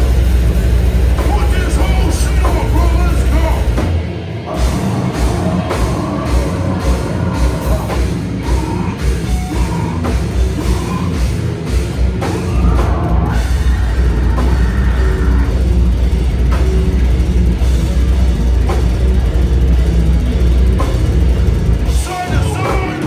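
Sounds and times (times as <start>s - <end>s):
bass guitar: 0.0s - 23.0s
distorted guitars: 0.0s - 23.0s
pounding drums: 0.0s - 23.0s.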